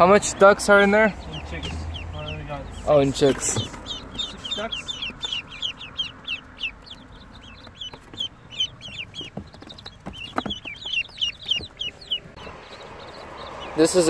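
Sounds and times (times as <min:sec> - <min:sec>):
ducklings and chicks peeping: 0:00.0 - 0:14.0.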